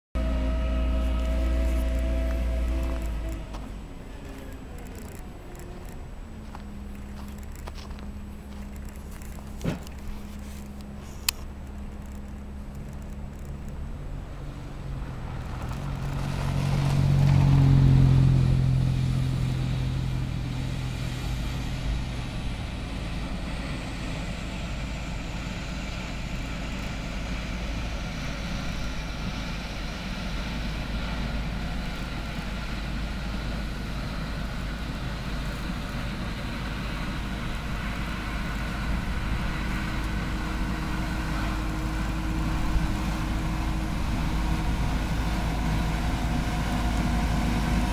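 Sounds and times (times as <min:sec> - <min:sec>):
vehicle engine droning: 0:00.0 - 0:47.9
falling whine: 0:00.2 - 0:47.9.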